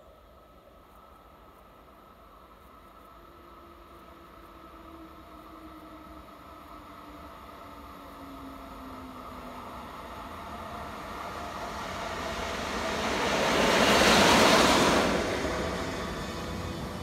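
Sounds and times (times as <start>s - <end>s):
train passing rushing noise: 3.2s - 17.0s.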